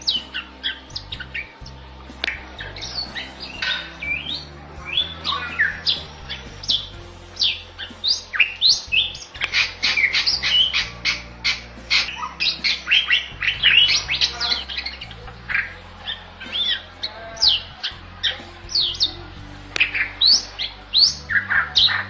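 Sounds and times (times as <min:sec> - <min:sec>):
bird singing: 0:00.0 - 0:22.0.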